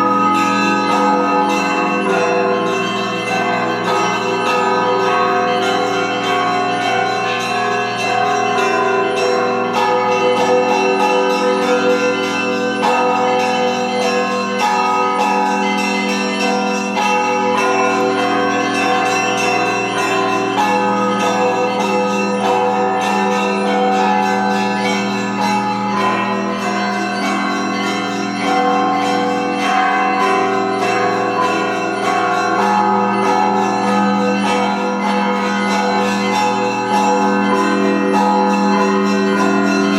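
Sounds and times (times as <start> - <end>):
church bells ringing a peal: 0.0 - 39.9.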